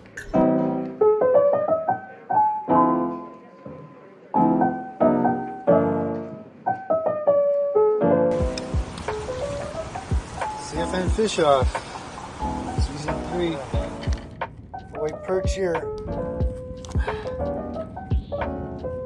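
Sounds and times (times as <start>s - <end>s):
solo piano music: 0.3s - 19.0s.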